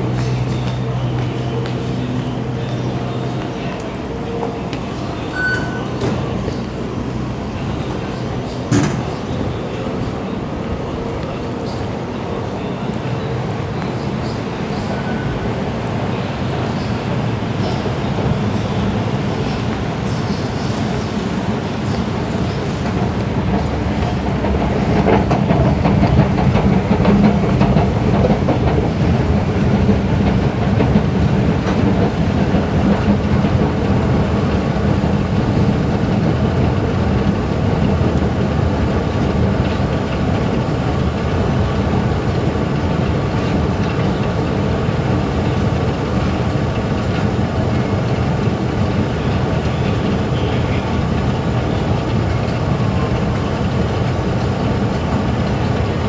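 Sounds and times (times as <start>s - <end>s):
escalator mechanical rumble: 0.0s - 56.0s.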